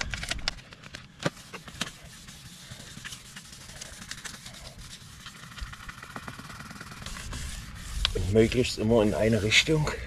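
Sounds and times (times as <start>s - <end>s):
sandpaper scratching on plastic: 0.0s - 10.0s.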